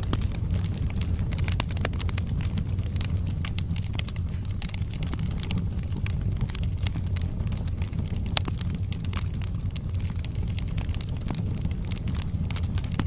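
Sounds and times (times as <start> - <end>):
logs crackling and popping: 0.0 - 13.0
low rumble of flames: 0.0 - 13.0.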